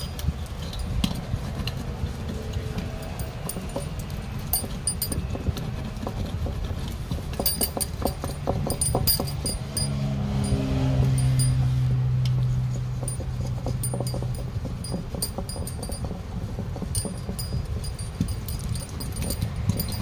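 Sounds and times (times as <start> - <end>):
tyre stitcher wheel clicking: 0.0 - 20.0.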